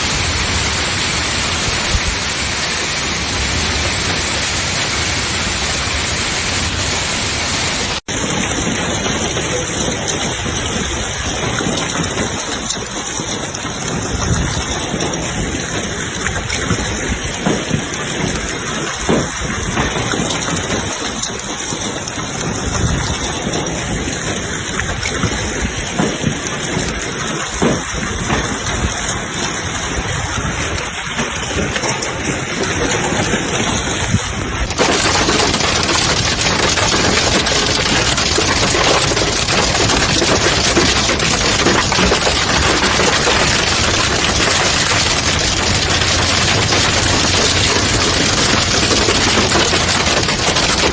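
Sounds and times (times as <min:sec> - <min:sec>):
rain and hail pelting: 0:00.0 - 0:50.9
rushing storm water: 0:00.0 - 0:50.9
scattered knocks: 0:08.0 - 0:50.9.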